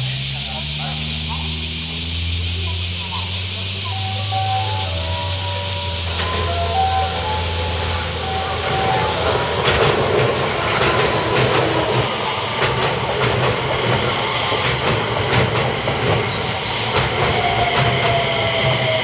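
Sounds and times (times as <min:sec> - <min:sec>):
electric train passing: 0:00.0 - 0:19.0
wheels clacking over rail joints: 0:02.6 - 0:19.0.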